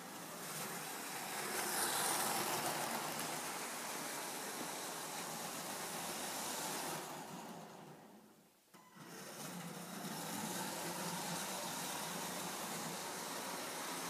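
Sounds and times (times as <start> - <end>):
toy train motor whirring: 0.0 - 8.2, 9.0 - 14.0.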